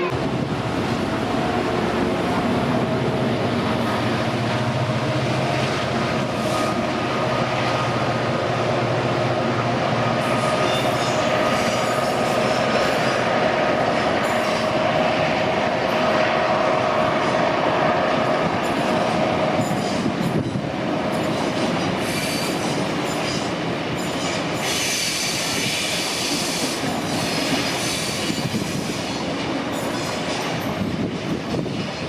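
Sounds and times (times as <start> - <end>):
train wheels rumbling: 0.0 - 32.0
train whine: 0.0 - 32.0.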